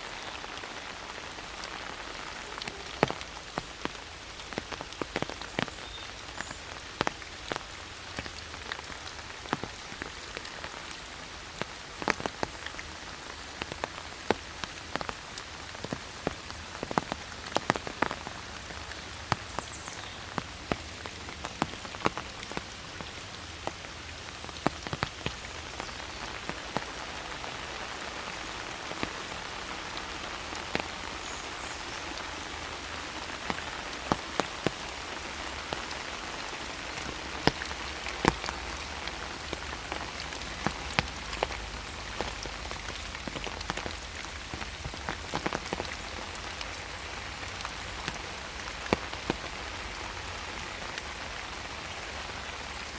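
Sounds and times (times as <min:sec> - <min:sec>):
rain falling through forest: 0:00.0 - 0:52.9
sharp water drips: 0:00.0 - 0:52.9.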